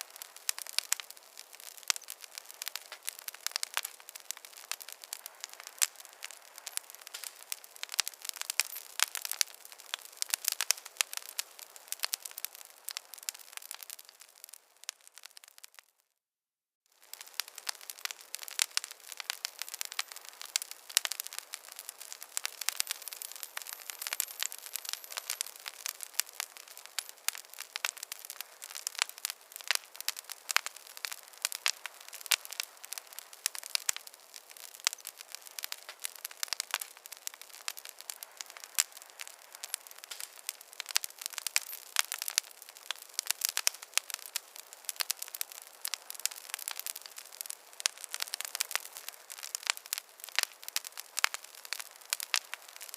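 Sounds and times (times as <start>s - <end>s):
wood fire crackling: 0.0s - 16.0s, 16.9s - 52.9s.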